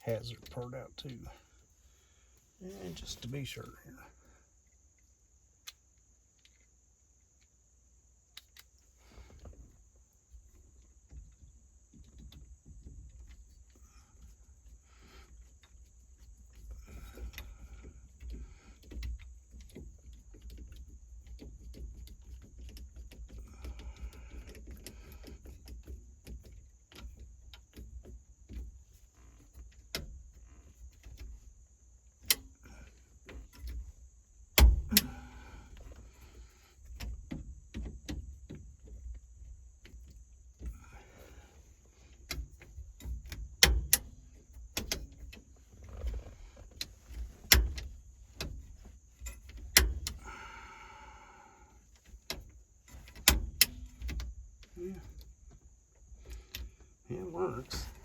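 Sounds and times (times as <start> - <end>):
clicks and rattles of parts: 4.7 - 7.6, 8.3 - 50.7, 51.7 - 58.0.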